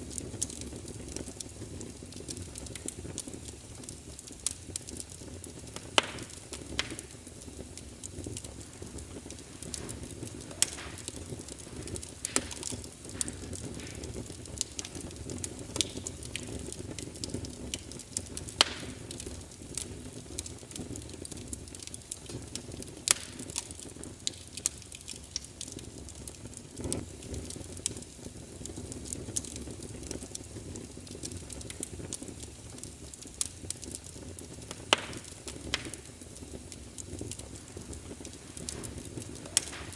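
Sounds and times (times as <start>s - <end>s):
fire crackling and popping: 0.0s - 39.9s
wood fire burning: 0.0s - 39.9s.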